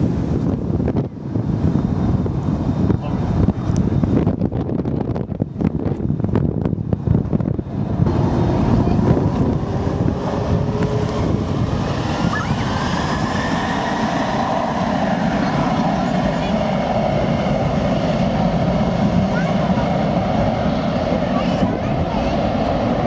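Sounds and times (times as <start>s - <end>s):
faint rising engine whine: 0.0s - 23.0s
jet engines roaring: 0.0s - 23.0s
wind buffeting microphone: 0.0s - 23.0s.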